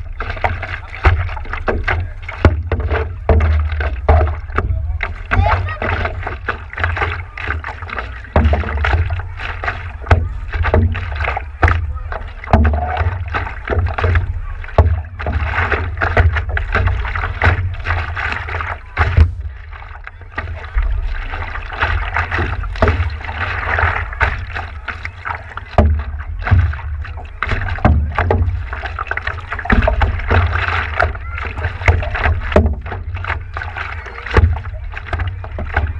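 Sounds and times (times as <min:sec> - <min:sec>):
low steady rumble: 0:00.0 - 0:35.9
paddle strokes splashing: 0:00.0 - 0:35.9
water slapping against board: 0:00.0 - 0:35.9.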